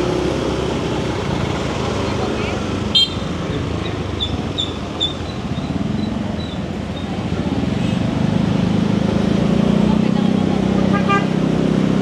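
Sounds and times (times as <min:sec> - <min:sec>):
motor scooter engine: 0:00.0 - 0:11.3
street traffic: 0:00.0 - 0:12.0.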